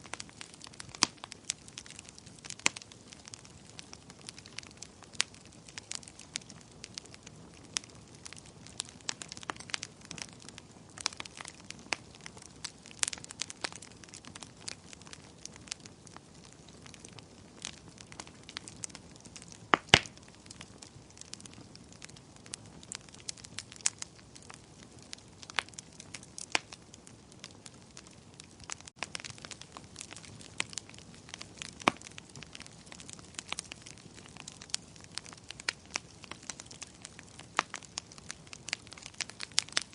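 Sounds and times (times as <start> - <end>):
fire crackling and popping: 0.0 - 39.9
soft steady hiss: 0.0 - 39.9.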